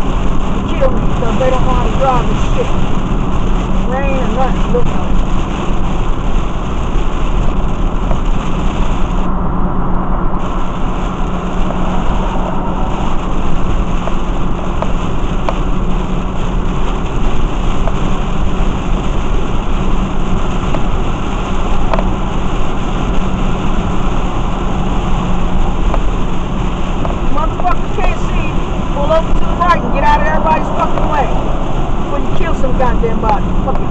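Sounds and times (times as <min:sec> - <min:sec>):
heavy rain on a car: 0:00.0 - 0:33.9
low hum: 0:00.0 - 0:33.9
tyres on wet road: 0:00.0 - 0:33.9.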